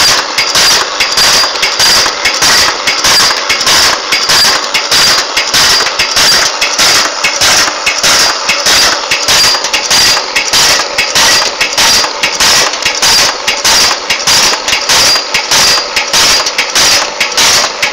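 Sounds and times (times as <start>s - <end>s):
tablet machine rhythmic clatter: 0.0s - 17.9s.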